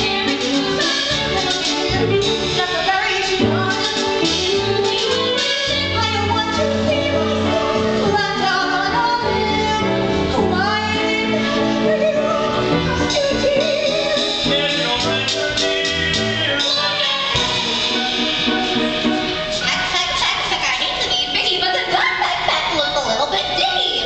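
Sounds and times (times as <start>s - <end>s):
instrumental accompaniment: 0.0s - 21.7s.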